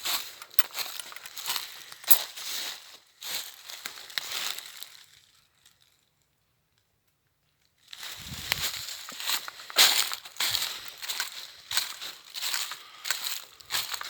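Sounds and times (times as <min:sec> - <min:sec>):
footsteps crunching through dry leaves: 0:00.0 - 0:06.0, 0:07.9 - 0:14.0.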